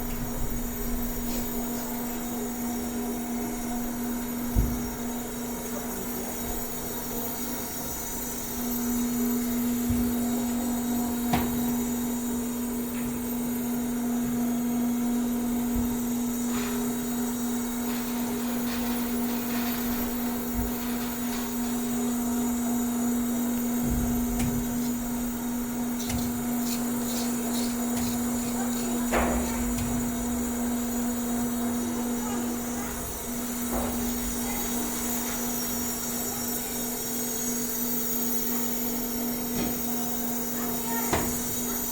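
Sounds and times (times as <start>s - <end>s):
industrial machinery hum: 0.0s - 41.9s.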